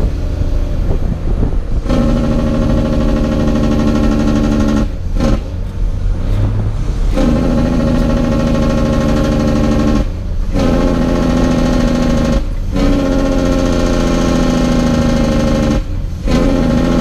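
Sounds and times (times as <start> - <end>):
truck diesel engine: 0.0 - 17.0.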